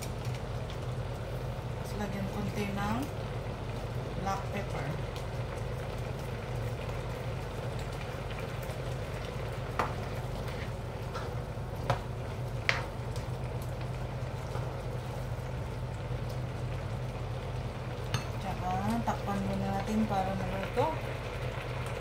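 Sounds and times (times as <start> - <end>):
sauce simmering: 0.0 - 22.0.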